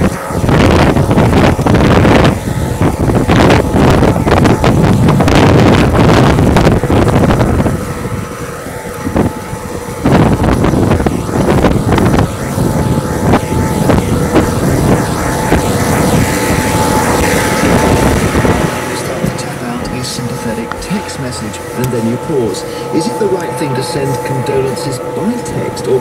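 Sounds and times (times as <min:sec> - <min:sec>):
tractor engine running: 0:00.0 - 0:26.0
wind noise on microphone: 0:00.0 - 0:26.0.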